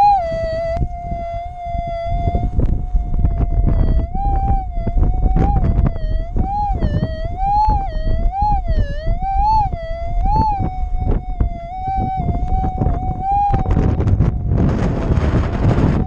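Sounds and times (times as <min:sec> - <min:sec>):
metal detector tone: 0:00.0 - 0:16.0
wind buffeting microphone: 0:00.0 - 0:16.0.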